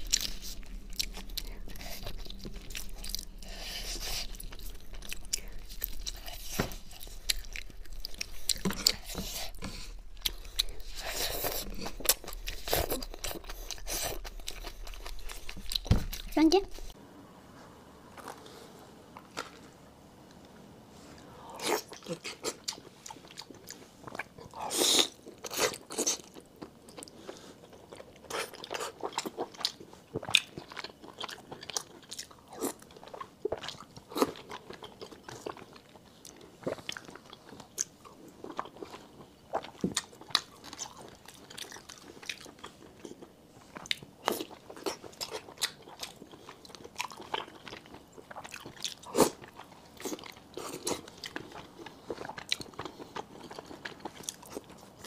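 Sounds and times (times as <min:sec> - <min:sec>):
person chewing food: 0:00.0 - 0:17.0, 0:21.2 - 0:55.0.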